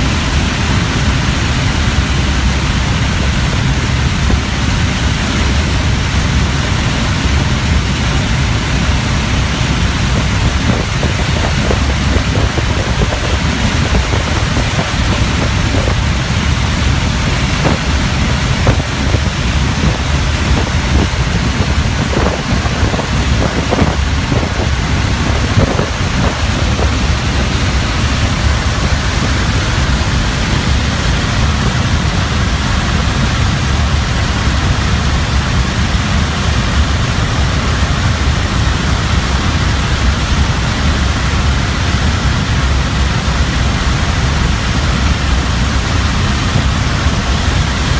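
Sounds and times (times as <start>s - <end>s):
propeller plane engine drone: 0.0s - 47.9s
rushing wind noise: 0.0s - 47.9s.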